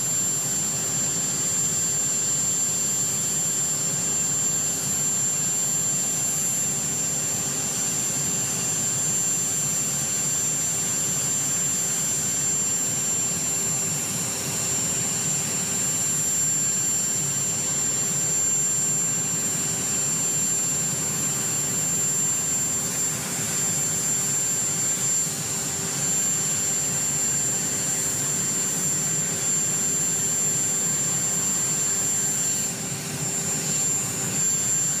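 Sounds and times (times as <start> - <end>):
aircraft turbine engines running: 0.0 - 35.0.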